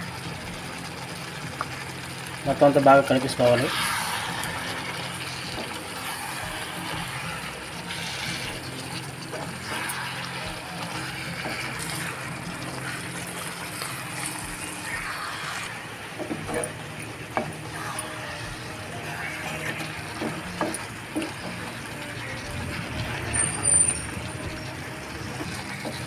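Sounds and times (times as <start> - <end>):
chicken sizzling in a pan: 0.0 - 26.0
spatula scraping a pan: 3.4 - 26.0.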